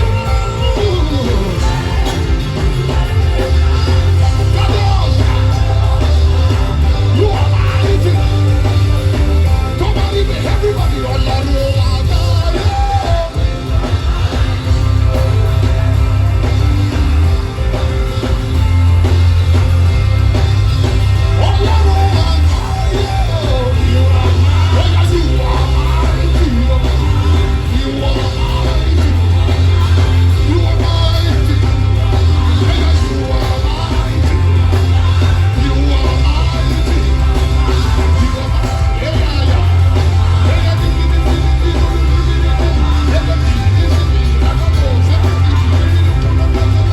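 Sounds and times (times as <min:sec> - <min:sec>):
band playing worship music: 0:00.0 - 0:46.9
heavy pulsing bass line: 0:00.0 - 0:46.9
people singing: 0:00.0 - 0:46.9.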